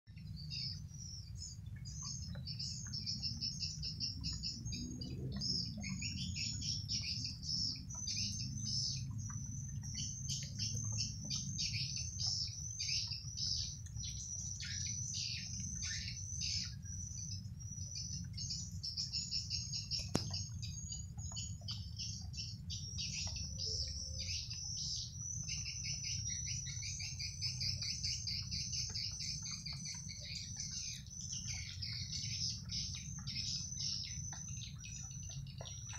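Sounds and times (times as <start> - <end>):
steady low rumble: 0.2 - 33.8.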